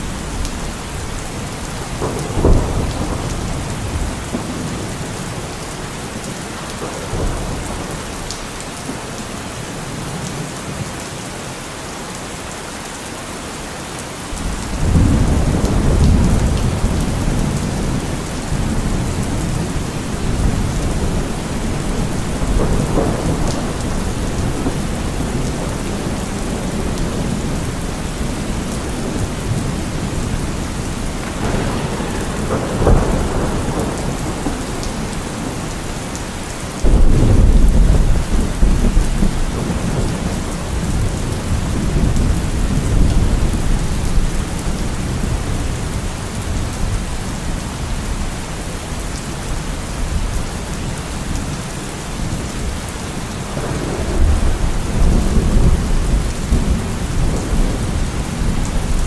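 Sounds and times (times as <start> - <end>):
thunder cracks and rumbles: 0.0 - 8.4, 14.4 - 48.3, 52.2 - 59.0
steady rain: 0.0 - 59.0.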